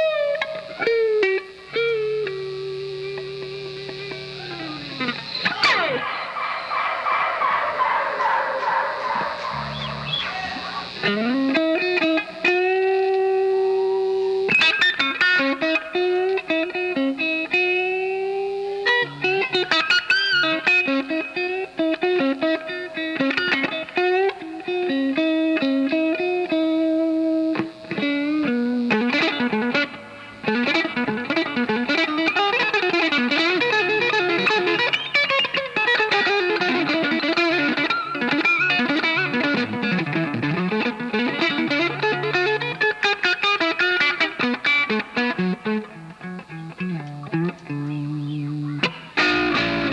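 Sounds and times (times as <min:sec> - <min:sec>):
electric guitar solo: 0:00.0 - 0:49.9.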